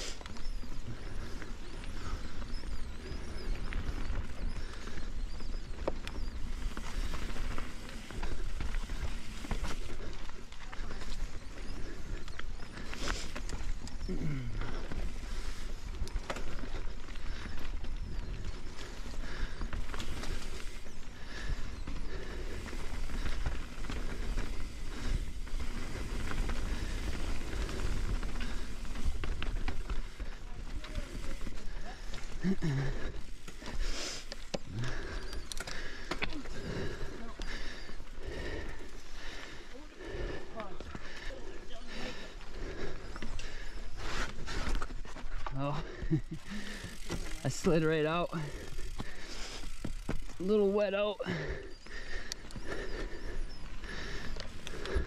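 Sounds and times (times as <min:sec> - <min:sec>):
bike rattling and clicking: 0:00.0 - 0:55.0
bike tyres on dirt: 0:00.0 - 0:55.0.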